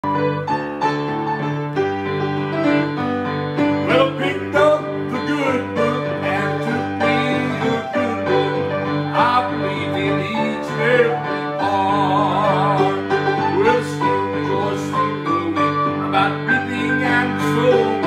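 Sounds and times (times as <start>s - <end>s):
grand piano gospel song: 0.0s - 18.0s.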